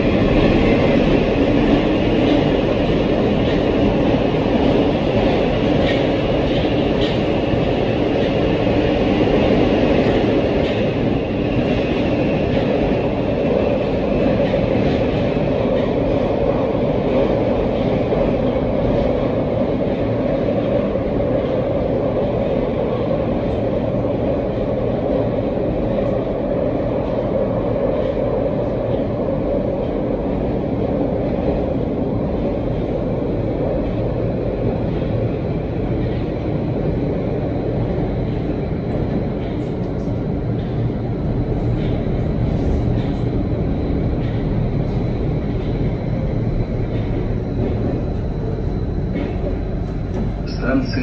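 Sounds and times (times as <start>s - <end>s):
metro train rumbling in tunnel: 0.0s - 51.0s.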